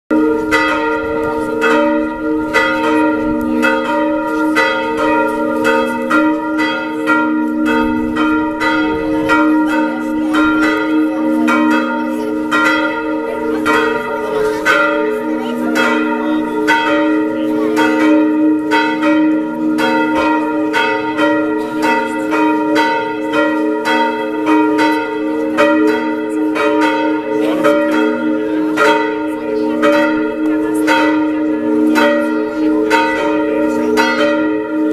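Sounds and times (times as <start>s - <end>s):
church bells pealing: 0.1s - 34.9s.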